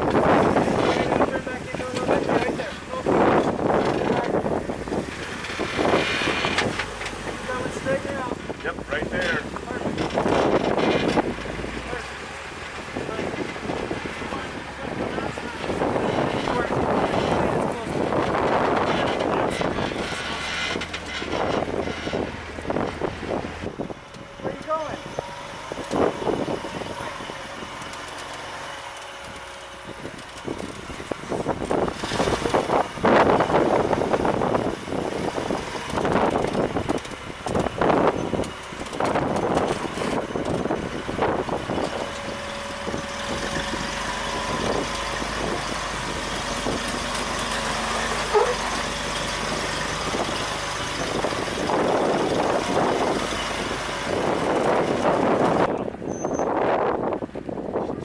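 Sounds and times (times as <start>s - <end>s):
off-road vehicle engine: 0.0s - 58.0s.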